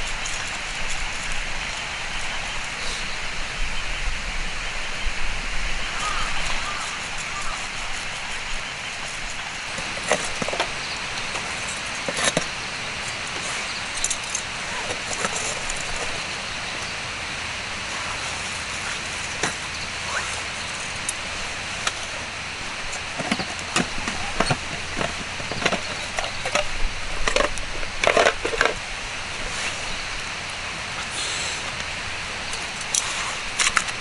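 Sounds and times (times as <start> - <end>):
wood fire crackling: 5.5 - 34.0.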